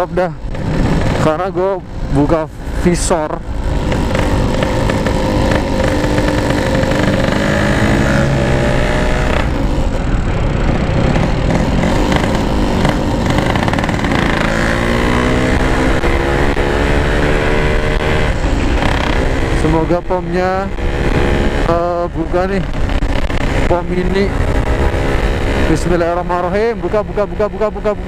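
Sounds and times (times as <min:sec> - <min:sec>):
motorcycle engine accelerating: 0:00.0 - 0:28.0
wind noise on microphone: 0:03.5 - 0:26.8.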